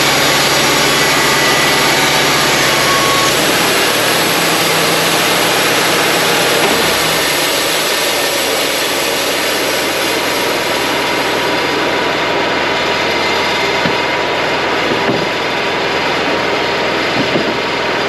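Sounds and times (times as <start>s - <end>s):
band sawmill cutting log: 0.0s - 18.0s.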